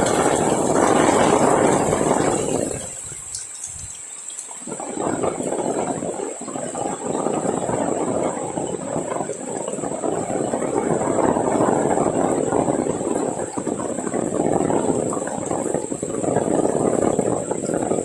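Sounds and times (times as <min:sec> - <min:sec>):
heavy rain splashing: 0:00.0 - 0:18.0.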